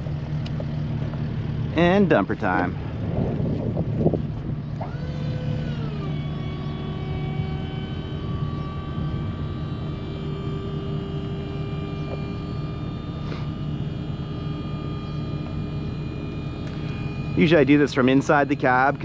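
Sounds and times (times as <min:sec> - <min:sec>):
diesel engine idling: 0:00.0 - 0:19.0
hydraulic pump whining: 0:00.0 - 0:19.0.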